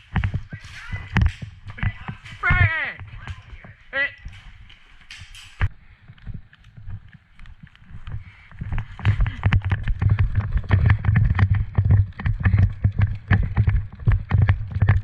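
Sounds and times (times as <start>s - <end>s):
gear rattling clicks: 0.0s - 15.0s
running footsteps thudding: 0.0s - 15.0s.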